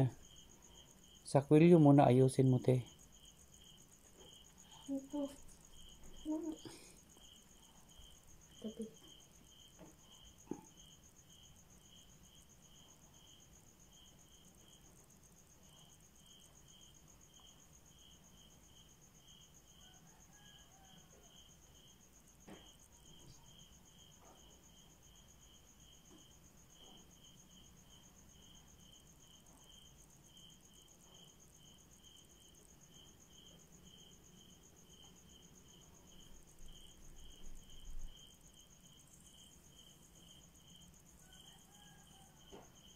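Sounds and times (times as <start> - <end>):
crickets chirping: 0.0 - 42.9
high insect trill: 0.0 - 42.9.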